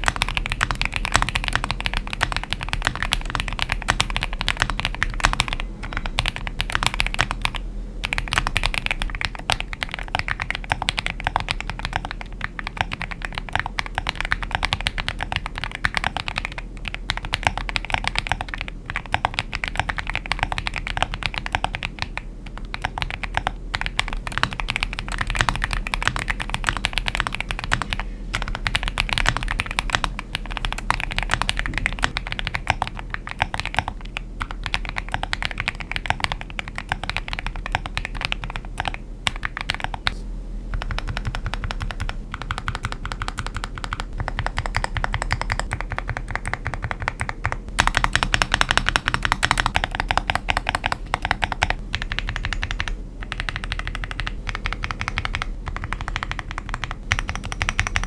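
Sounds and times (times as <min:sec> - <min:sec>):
fast typing on mechanical keyboard: 0:00.0 - 0:58.0.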